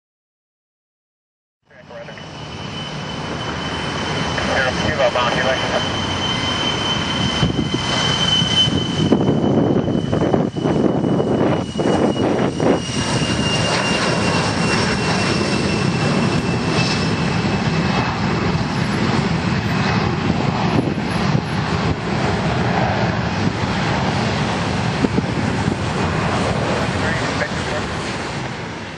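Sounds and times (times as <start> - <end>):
jet taking off with high whine: 1.7 - 28.9.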